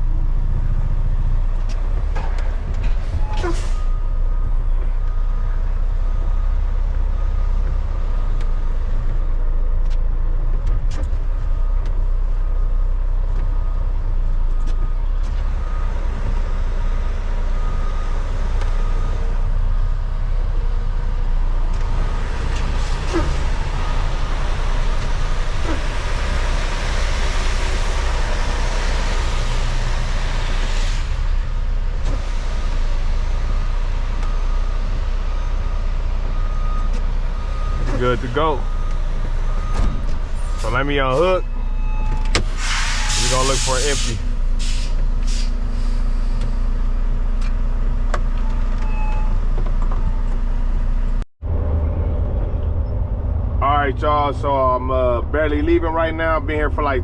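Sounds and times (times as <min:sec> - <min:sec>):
diesel truck engine rumble: 0:00.0 - 0:57.0.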